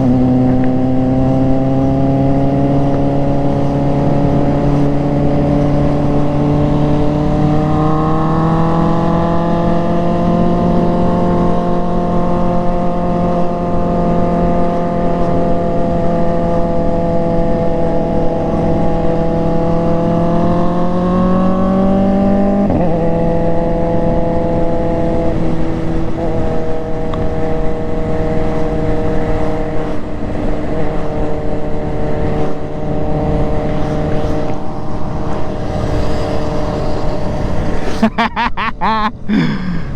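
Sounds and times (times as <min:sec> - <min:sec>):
motorcycle engine accelerating: 0:00.0 - 0:39.1
wind rush on microphone: 0:00.0 - 0:39.9.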